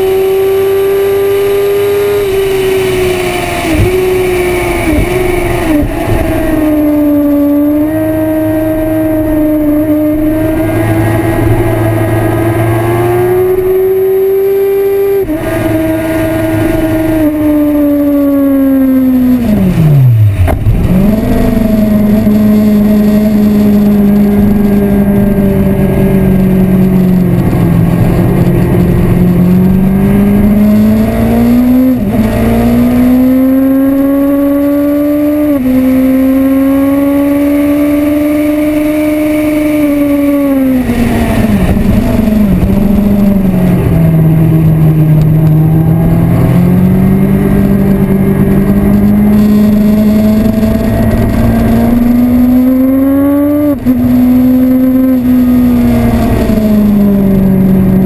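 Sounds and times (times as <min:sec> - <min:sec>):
motorcycle engine at full pace: 0:00.0 - 0:58.0.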